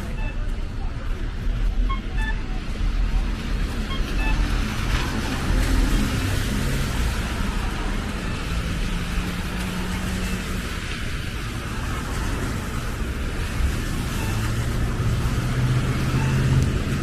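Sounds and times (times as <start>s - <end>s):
steady low traffic rumble: 0.0s - 17.0s.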